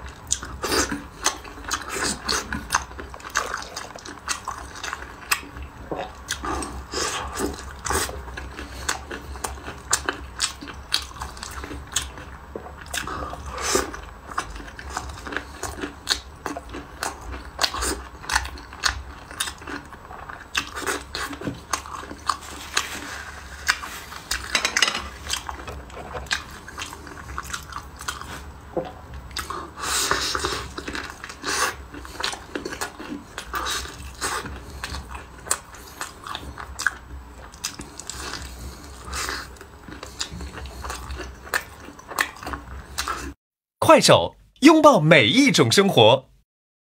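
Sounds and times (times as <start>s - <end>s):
person chewing crunchy food: 0.0s - 24.5s, 25.1s - 43.4s.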